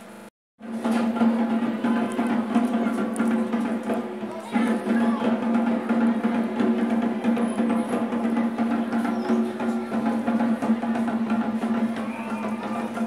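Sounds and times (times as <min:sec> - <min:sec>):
rapid drumming: 0:00.6 - 0:13.0.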